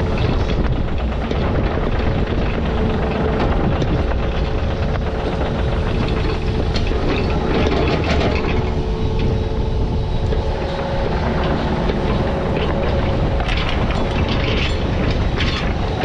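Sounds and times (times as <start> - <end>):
diesel engine running: 0.0 - 16.0
machine clanks and rattles: 0.0 - 16.0.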